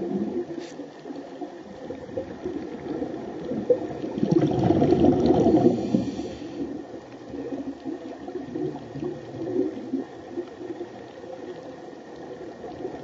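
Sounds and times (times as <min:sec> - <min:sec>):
muffled underwater sloshing: 0:00.0 - 0:13.0.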